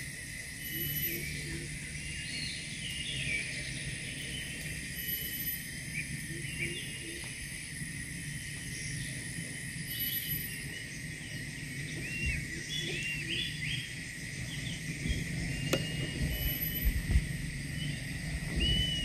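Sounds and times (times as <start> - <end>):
high insect drone: 0.0 - 19.0
bird chirps: 0.4 - 19.0.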